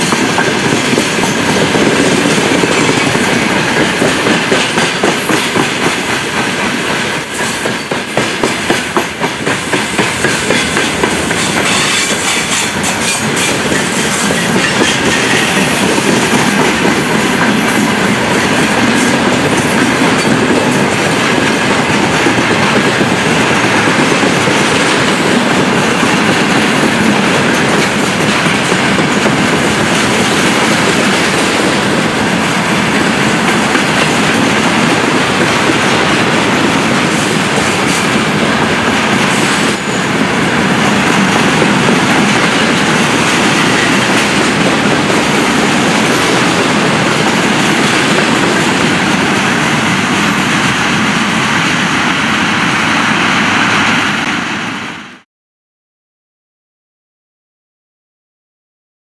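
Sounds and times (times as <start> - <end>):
freight train wheels on rails: 0.0 - 55.2.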